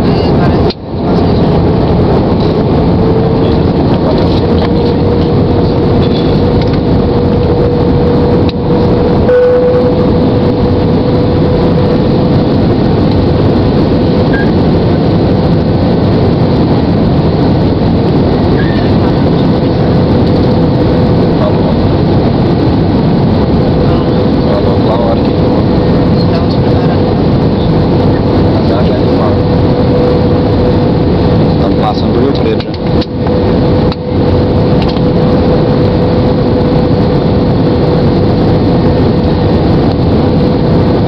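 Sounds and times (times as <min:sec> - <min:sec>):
jet engine roar: 0:00.0 - 0:41.0
rushing air: 0:00.0 - 0:41.0
steady whine: 0:00.0 - 0:41.0.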